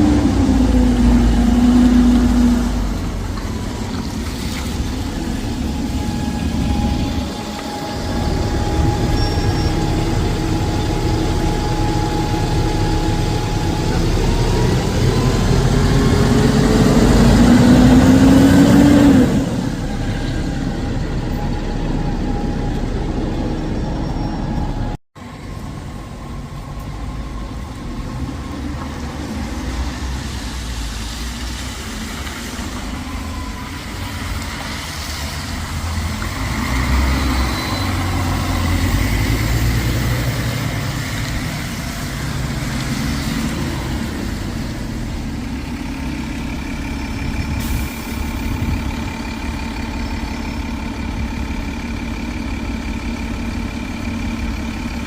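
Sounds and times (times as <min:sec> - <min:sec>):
bus engine accelerating: 0:00.0 - 0:55.0
road traffic: 0:00.0 - 0:55.0.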